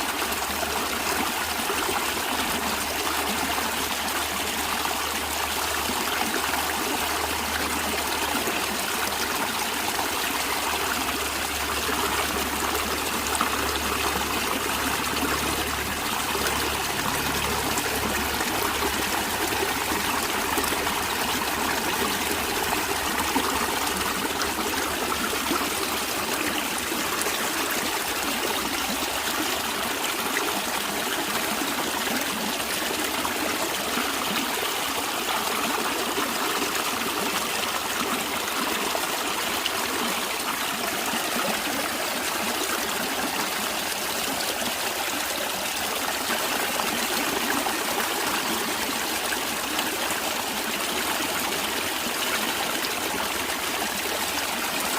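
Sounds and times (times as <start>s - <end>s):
stream of water flowing: 0.0s - 54.9s.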